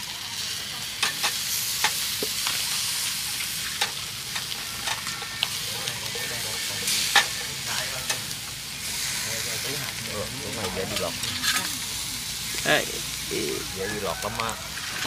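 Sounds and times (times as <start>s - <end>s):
food sizzling: 0.0s - 15.0s.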